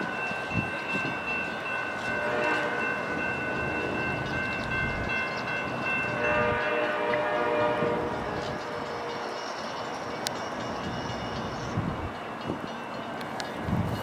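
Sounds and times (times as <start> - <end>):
passenger train rolling past: 0.0 - 14.0
steady high tone: 0.0 - 14.0.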